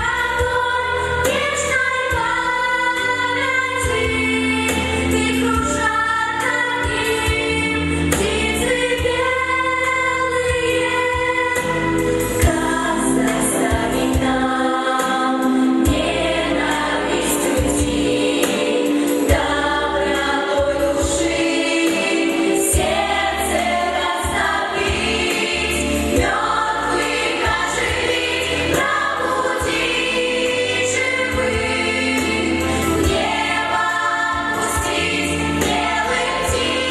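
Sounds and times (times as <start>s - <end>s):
choir singing: 0.0s - 36.9s
instrumental accompaniment: 0.0s - 36.9s.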